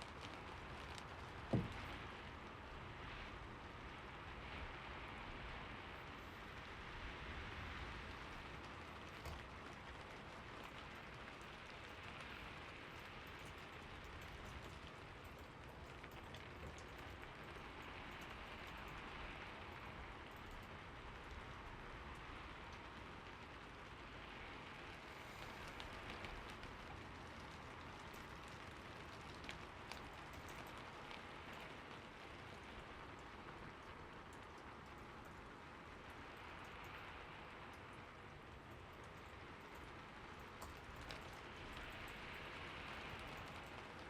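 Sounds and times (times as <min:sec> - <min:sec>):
raindrops tapping: 0:00.0 - 0:02.5, 0:07.8 - 0:44.0
steady rain hiss: 0:00.0 - 0:44.0.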